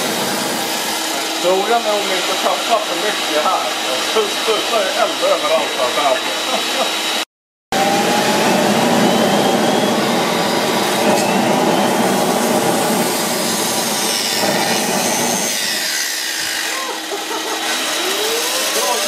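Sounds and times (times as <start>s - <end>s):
jet turbine rushing: 0.0s - 19.0s.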